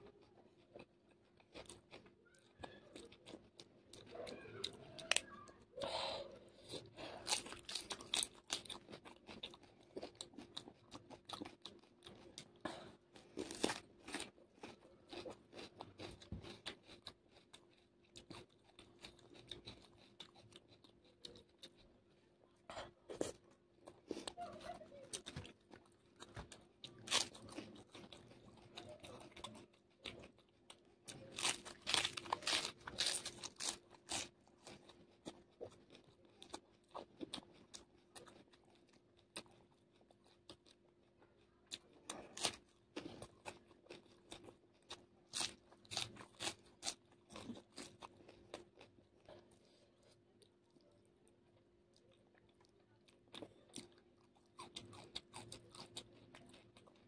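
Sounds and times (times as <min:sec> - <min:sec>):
crisp chewing crunches: 0:00.0 - 0:57.0.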